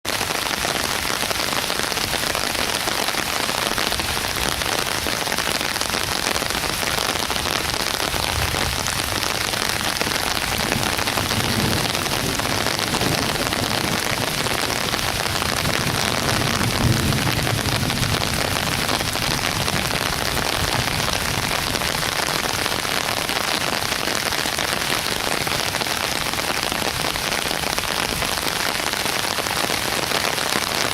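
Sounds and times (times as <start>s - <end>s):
heavy rain pouring: 0.1s - 30.9s.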